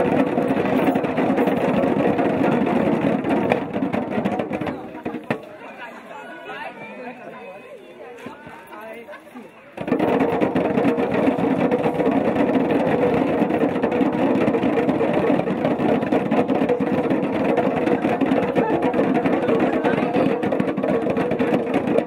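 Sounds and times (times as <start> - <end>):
children beating hand drums: 0.0 - 5.5, 9.8 - 22.0.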